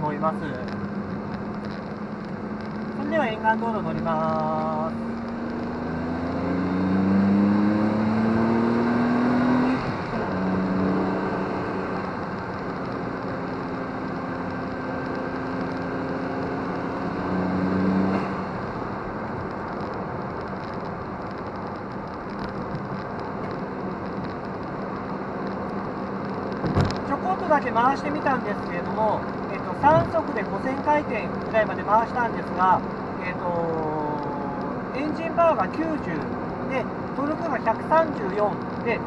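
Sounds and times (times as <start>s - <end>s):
car engine accelerating: 0.0s - 39.0s
tyre and road hum: 0.0s - 39.0s.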